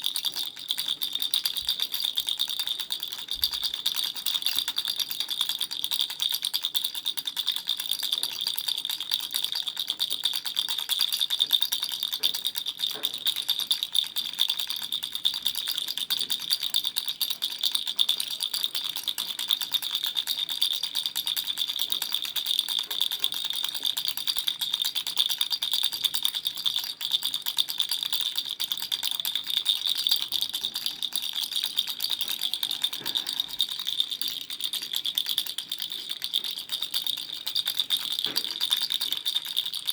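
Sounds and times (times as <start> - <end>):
toy rattle shaken: 0.0 - 39.9.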